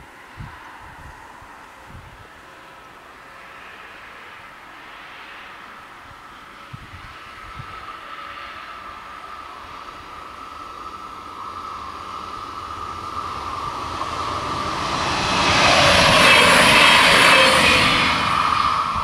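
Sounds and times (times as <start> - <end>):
diesel railcar approaching: 0.0 - 19.0.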